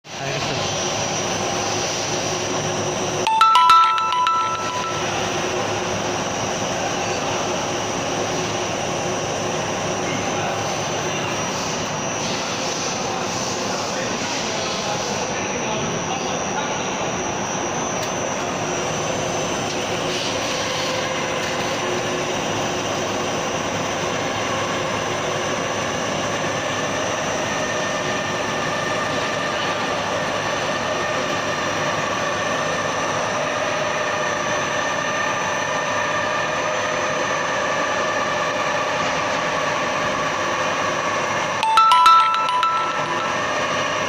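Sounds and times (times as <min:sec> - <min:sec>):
lathe machining with high whine: 0:00.1 - 0:03.5, 0:04.6 - 0:41.9.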